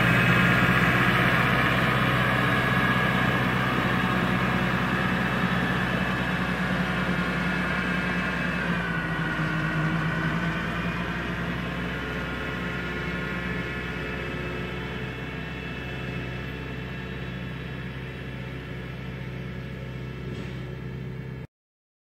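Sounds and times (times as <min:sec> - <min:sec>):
tractor engine running: 0:00.0 - 0:21.5.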